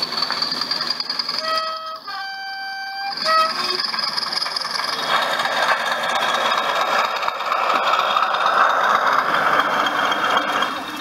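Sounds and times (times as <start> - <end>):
model locomotive diesel engine sound: 0.0 - 11.0.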